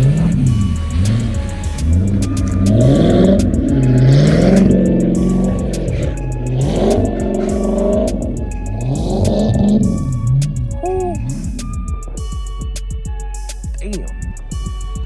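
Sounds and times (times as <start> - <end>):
car engine revving hard: 0.0 - 12.2.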